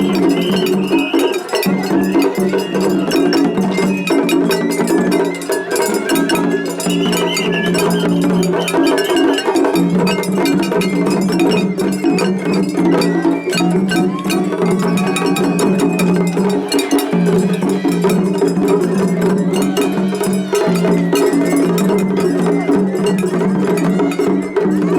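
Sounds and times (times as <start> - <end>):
flute melody: 0.0 - 24.9
taiko drums: 0.0 - 24.9.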